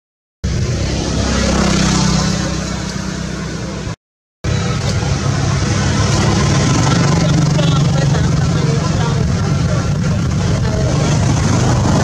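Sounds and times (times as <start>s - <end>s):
vehicle engine running with hiss: 0.5s - 12.0s.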